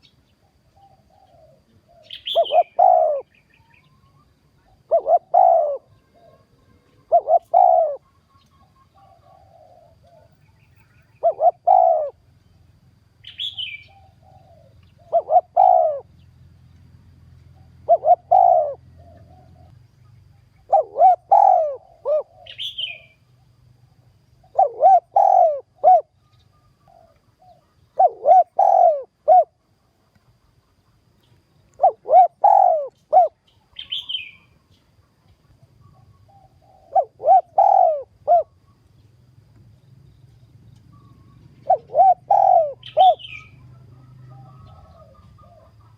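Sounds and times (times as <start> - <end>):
dove cooing: 0.0 - 12.4, 13.2 - 16.2, 17.5 - 19.8, 20.6 - 23.2, 24.4 - 29.8, 31.7 - 34.6, 35.4 - 38.8, 40.9 - 45.9
bird chirps: 0.0 - 29.5, 30.2 - 45.9.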